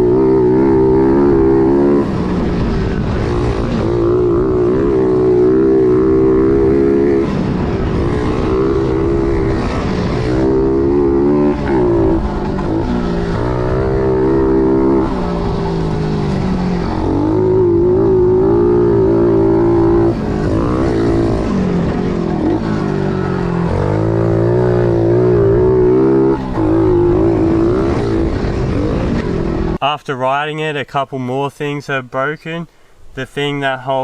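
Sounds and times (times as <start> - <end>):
motorbike engine revving: 0.0 - 29.8.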